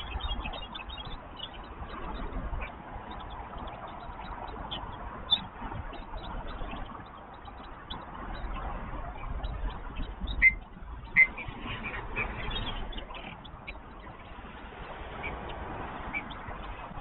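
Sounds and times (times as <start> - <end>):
bird chirps and calls: 0.0 - 17.0
low rumble of city background: 0.0 - 17.0.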